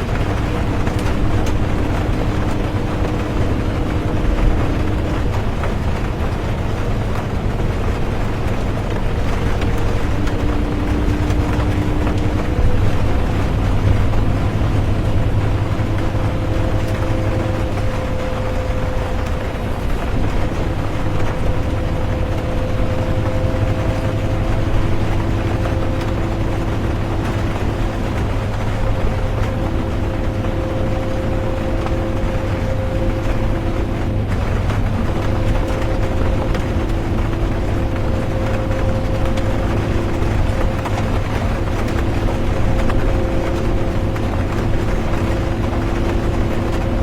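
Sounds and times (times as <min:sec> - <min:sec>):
bus engine and road rumble: 0:00.0 - 0:47.0
constant whine: 0:00.0 - 0:47.0
drivetrain hum: 0:00.0 - 0:47.0
rain hiss: 0:00.0 - 0:47.0.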